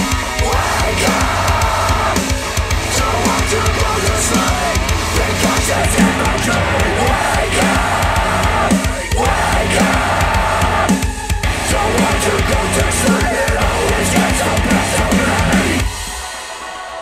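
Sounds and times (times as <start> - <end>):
loud rock music through speakers: 0.0 - 17.0.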